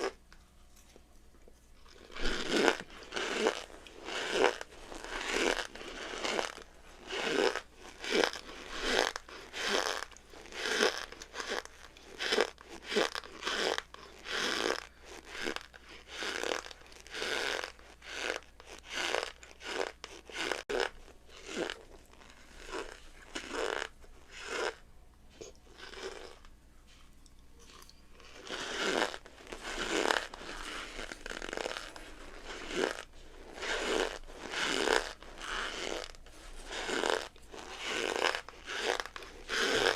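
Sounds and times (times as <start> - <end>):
cornstarch creaking crunch: 1.8 - 24.8, 25.4 - 26.5, 27.7 - 39.9.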